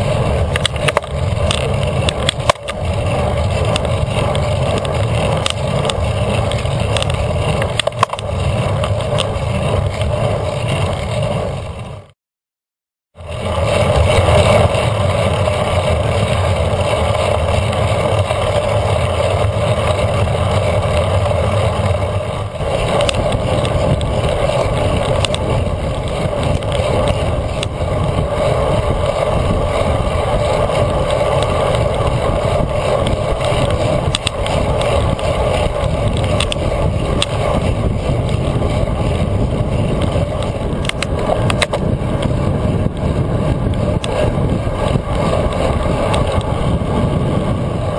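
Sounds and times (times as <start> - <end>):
wind rushing over microphone: 0.0 - 12.1, 13.2 - 47.9
bike tyre and road noise: 0.0 - 12.2, 13.1 - 47.9.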